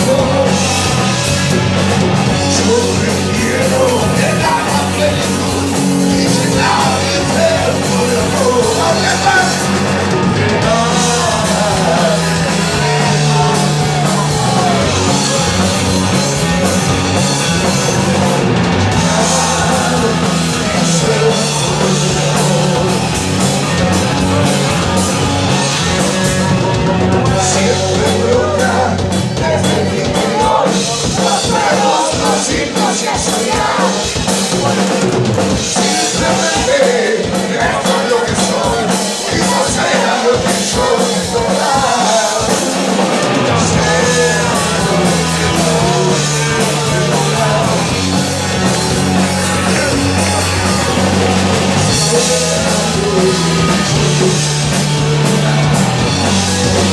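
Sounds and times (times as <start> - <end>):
bass: 0.0 - 56.9
drums: 0.0 - 56.9
guitar: 0.0 - 56.9
person singing: 0.0 - 56.9.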